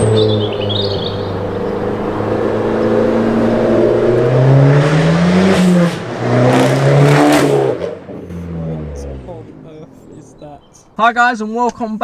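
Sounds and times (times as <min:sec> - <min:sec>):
loud car engine revving: 0:00.0 - 0:11.0.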